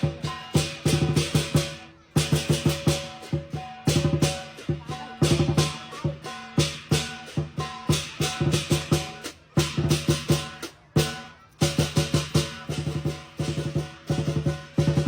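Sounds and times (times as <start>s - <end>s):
big drum beating: 0.0s - 15.0s
cymbals crashing: 0.0s - 15.0s.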